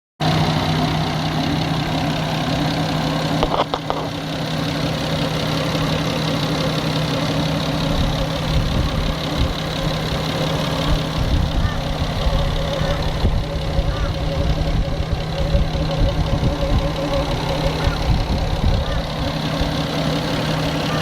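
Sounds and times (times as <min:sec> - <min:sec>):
car engine idling with ticking: 0:00.2 - 0:21.0.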